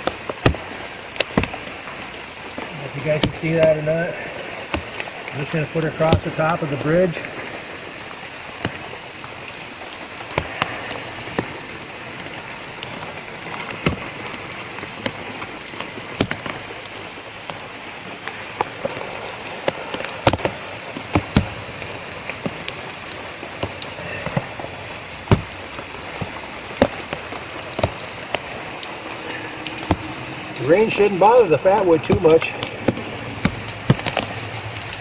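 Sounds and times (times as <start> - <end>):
heavy rain hissing: 0.0 - 35.0
sharp rain taps: 0.0 - 35.0.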